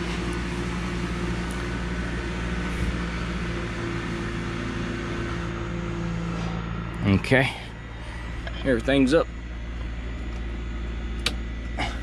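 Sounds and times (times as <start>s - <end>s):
electric motors humming: 0.0s - 12.0s.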